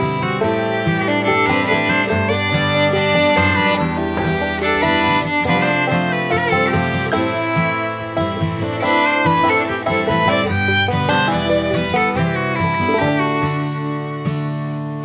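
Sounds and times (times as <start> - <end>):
fiddle and guitar country music: 0.0 - 15.0.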